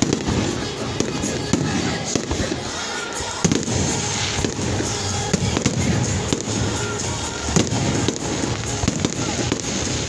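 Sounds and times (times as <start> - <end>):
fireworks bangs: 0.0 - 10.0
music playing: 0.0 - 10.0.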